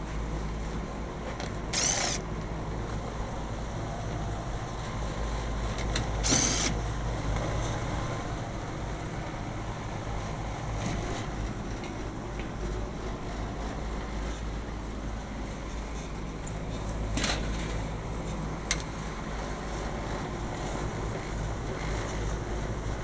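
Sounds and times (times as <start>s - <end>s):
air-conditioning equipment humming: 0.0s - 23.0s.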